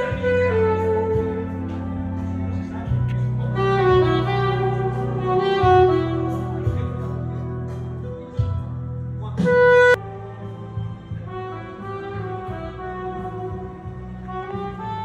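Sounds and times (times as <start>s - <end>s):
melody over steady bass line: 0.0s - 15.0s.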